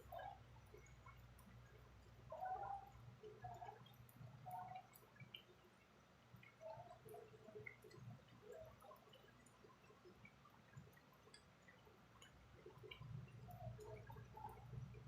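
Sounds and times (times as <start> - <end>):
stew bubbling in a pot: 0.0 - 15.0.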